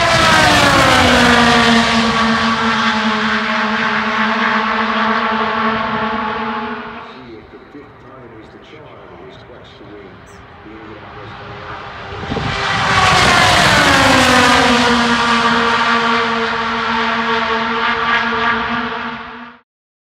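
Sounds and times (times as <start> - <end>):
race car engines passing: 0.0 - 19.6.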